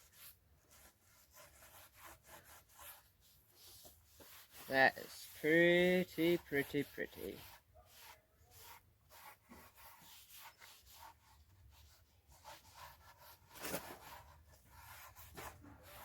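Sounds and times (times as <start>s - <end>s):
rubbing strokes on wood: 0.0s - 16.0s
sharp brushing sound: 0.8s - 16.0s.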